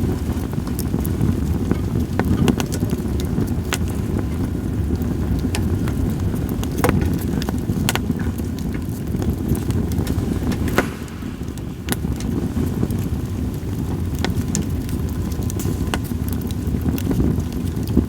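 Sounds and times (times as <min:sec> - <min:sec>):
campfire crackling pops: 0:00.0 - 0:18.0
fire low rumble: 0:00.0 - 0:18.0.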